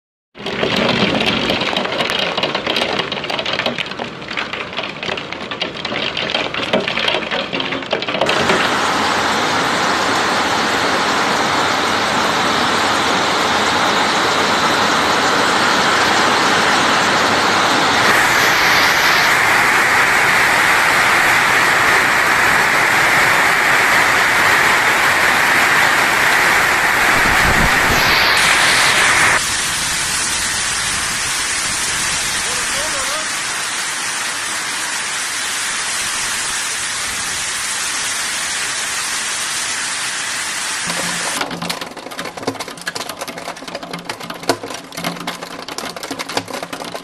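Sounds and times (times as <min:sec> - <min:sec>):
hail and rain pouring: 0:00.4 - 0:47.0.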